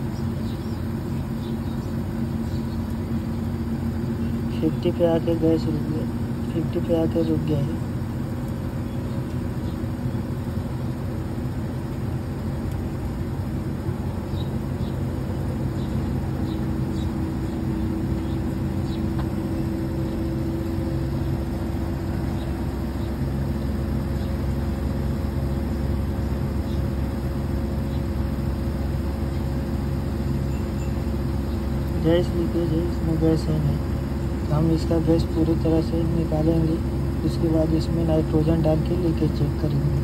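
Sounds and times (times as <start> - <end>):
air conditioner unit humming: 0.0 - 40.0.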